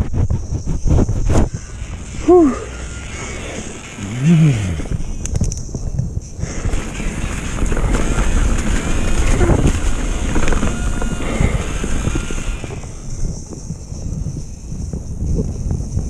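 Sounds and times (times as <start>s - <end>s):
bike tyres rumbling and rattling: 0.0s - 16.0s
wind buffeting microphone: 0.0s - 16.0s.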